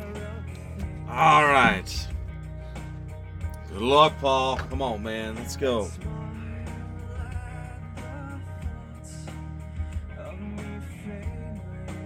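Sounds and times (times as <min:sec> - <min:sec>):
guitar music with low beat: 0:00.0 - 0:12.0.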